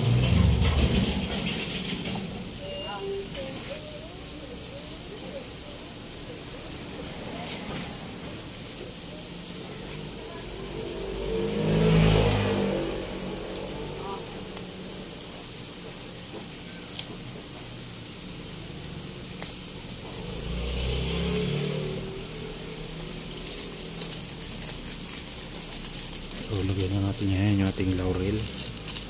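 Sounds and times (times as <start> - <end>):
vehicle passing by: 0.0 - 2.6, 4.5 - 29.0
food sizzling in a wok: 0.0 - 29.0.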